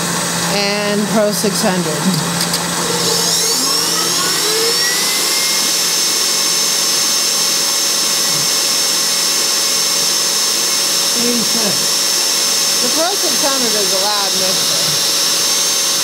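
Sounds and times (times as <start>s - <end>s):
stand mixer motor whine: 0.0s - 16.0s.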